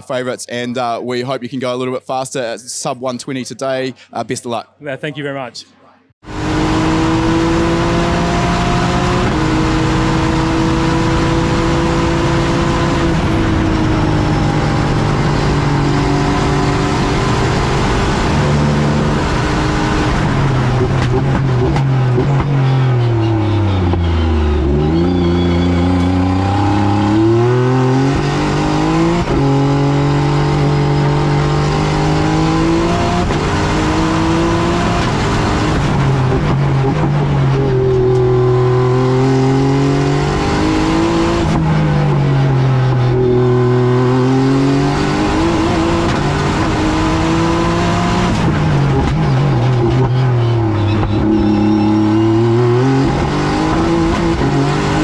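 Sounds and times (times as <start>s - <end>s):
race car engine revving: 6.2s - 55.0s.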